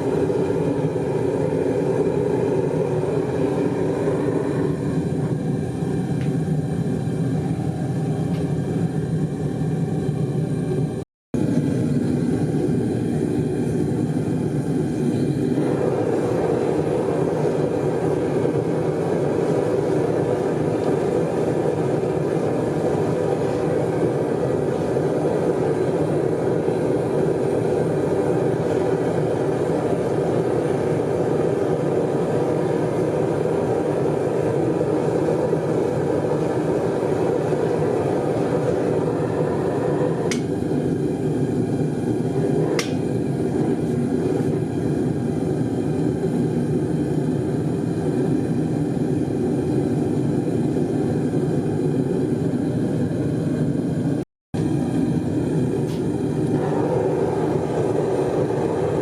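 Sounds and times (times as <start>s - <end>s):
gas burner roaring: 0.0s - 59.0s.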